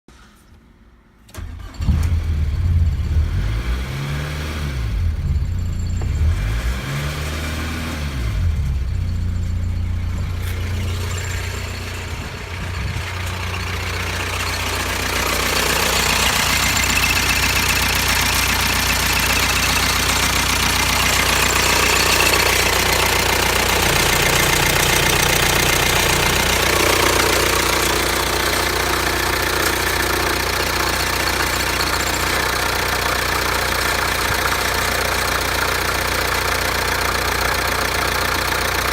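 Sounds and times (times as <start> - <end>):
diesel engine starting and running: 1.3 - 38.9.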